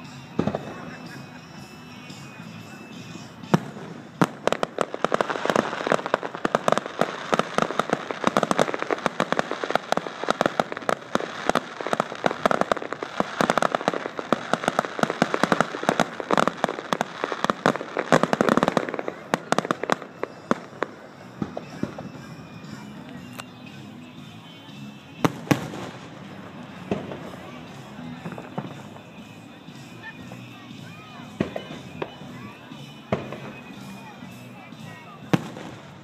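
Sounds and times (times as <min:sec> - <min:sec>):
firework bangs and crackling: 0:00.0 - 0:36.0.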